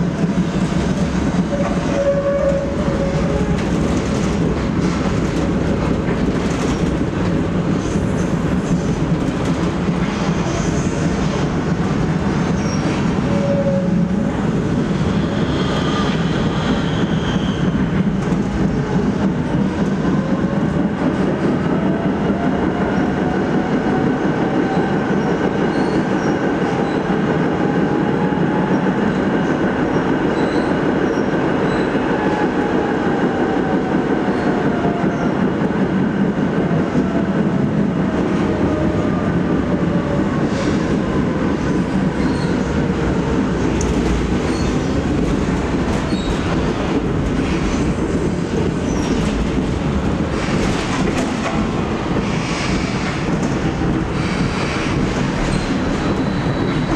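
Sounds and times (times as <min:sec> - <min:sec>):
tram rolling rumble: 0:00.0 - 0:56.9.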